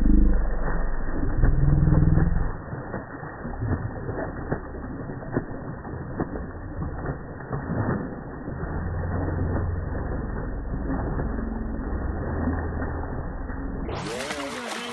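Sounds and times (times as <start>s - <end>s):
slowed water splashing: 0.0s - 14.9s.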